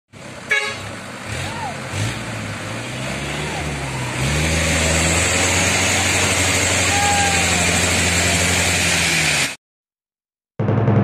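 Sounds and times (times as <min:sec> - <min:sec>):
truck diesel engine running hard: 0:00.1 - 0:09.6.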